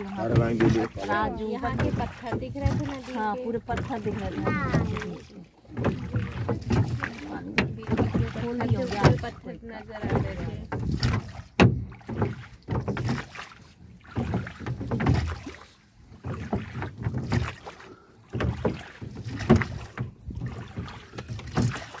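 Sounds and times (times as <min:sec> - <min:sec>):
oars pulling through water: 0:00.0 - 0:22.0.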